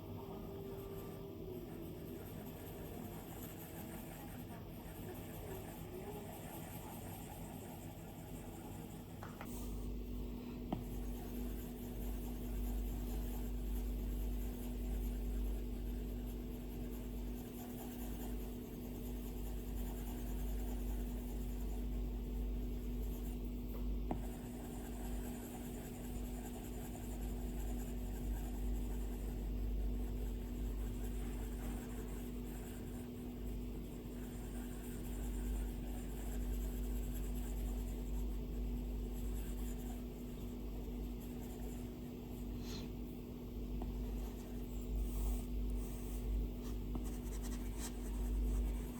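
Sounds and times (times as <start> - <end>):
steady low hum: 0.0 - 48.9
stylus scratching on a screen: 0.3 - 9.2, 10.7 - 43.0, 43.7 - 48.9.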